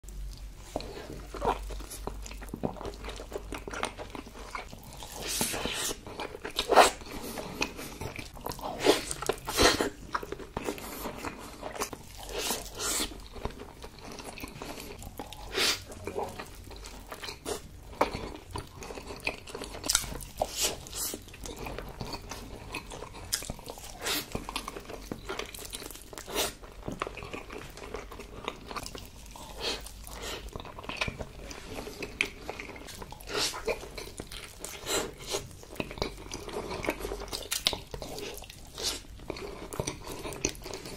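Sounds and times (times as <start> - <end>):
mouth chewing clicks and smacks: 0.3 - 40.9.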